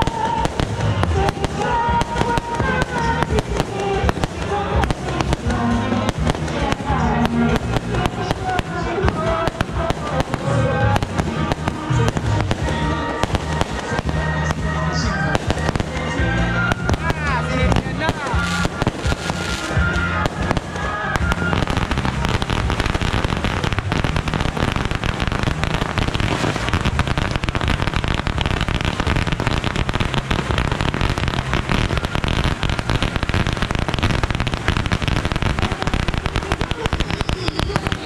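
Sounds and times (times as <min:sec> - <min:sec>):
firecrackers crackling: 0:00.0 - 0:38.0.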